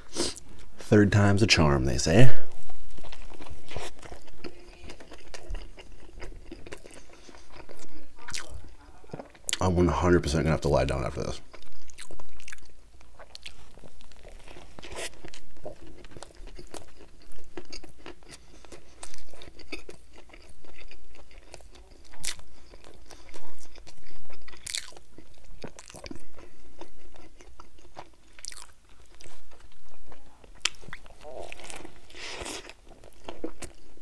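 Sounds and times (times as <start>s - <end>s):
wet chewing with crisp crunches: 2.6s - 9.6s, 11.4s - 34.0s.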